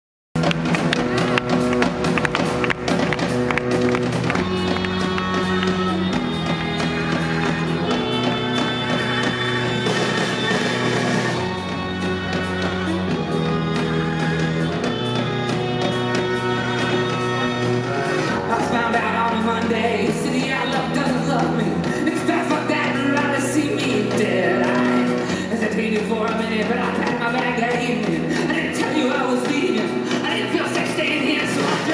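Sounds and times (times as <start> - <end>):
drum kit: 0.4 - 31.9
live rock band: 0.4 - 31.9
saxophone: 0.4 - 31.9.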